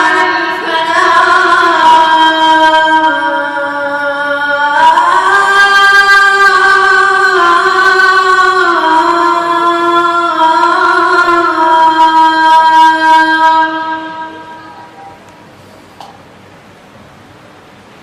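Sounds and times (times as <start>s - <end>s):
boy chanting melodically: 0.0s - 15.2s.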